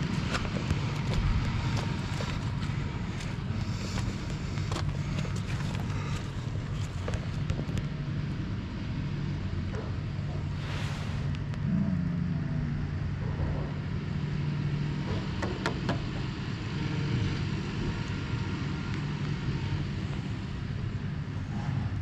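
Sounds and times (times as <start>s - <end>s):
motor humming steadily: 0.0s - 22.0s.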